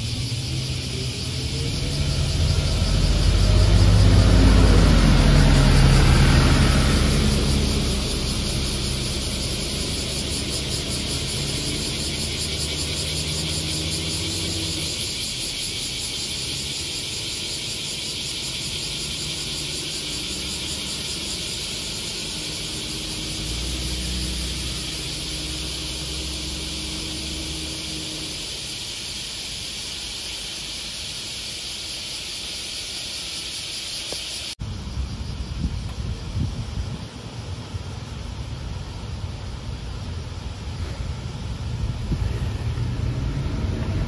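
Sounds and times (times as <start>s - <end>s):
van driving past: 0.0s - 30.8s, 37.3s - 44.0s
bus engine pulling away: 0.0s - 31.2s, 34.6s - 44.0s
steady high hiss: 5.3s - 43.4s.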